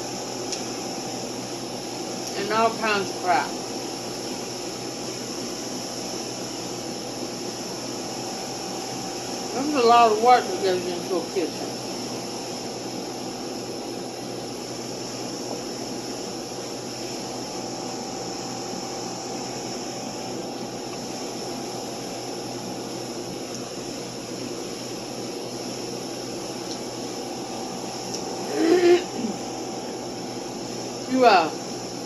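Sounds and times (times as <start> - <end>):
constant hiss: 0.0 - 32.0
faint even hum: 0.0 - 32.0.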